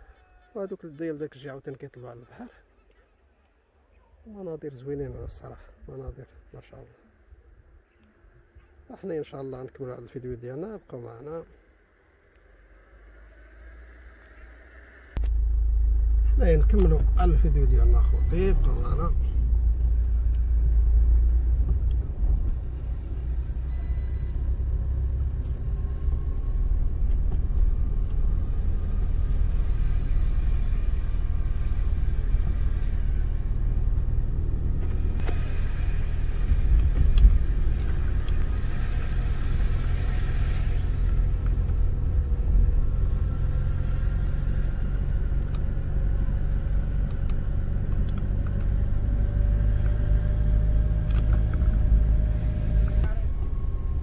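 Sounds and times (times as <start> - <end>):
car driving rumble: 5.0 - 54.0.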